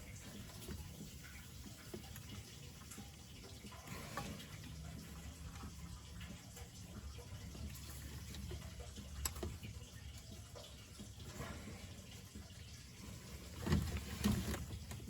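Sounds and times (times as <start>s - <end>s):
oil trickling into a drain pan: 0.0s - 15.0s.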